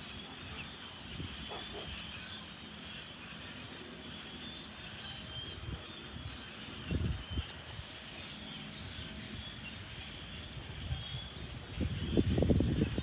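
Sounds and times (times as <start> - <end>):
faint bird chirps: 0.0 - 13.0
outdoor background noise: 0.0 - 13.0.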